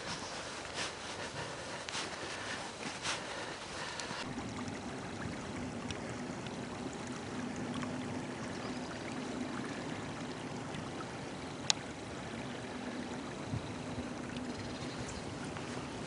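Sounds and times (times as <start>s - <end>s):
brook water rushing: 0.0s - 16.0s.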